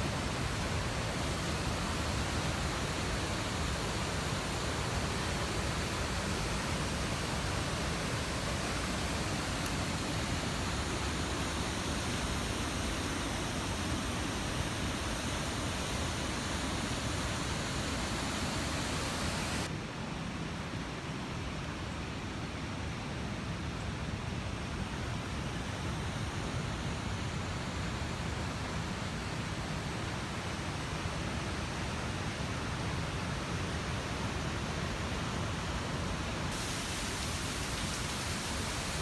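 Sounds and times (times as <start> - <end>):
rush of falling water: 0.0 - 19.7, 24.9 - 39.0.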